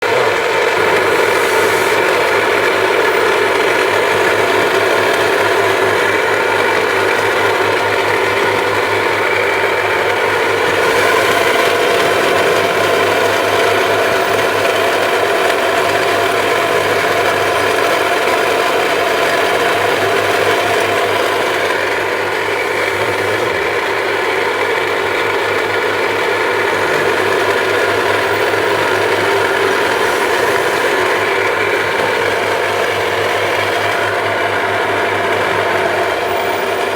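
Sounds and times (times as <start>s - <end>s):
electric drill boring through wood: 0.0s - 36.9s.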